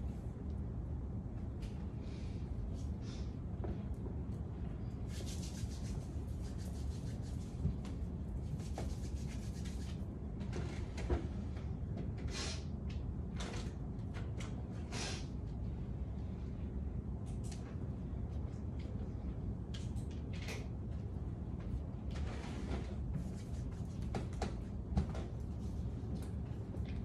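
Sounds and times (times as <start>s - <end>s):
room hum: 0.0s - 27.0s.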